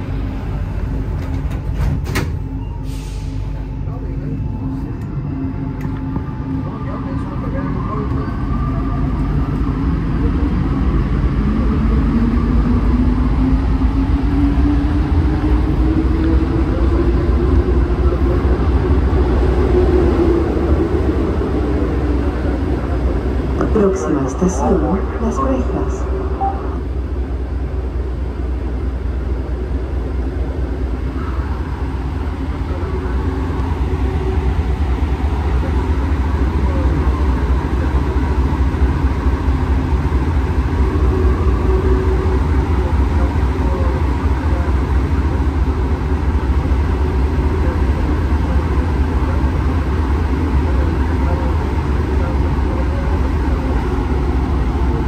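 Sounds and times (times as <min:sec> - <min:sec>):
metro train cabin rumble: 0:00.0 - 0:55.0.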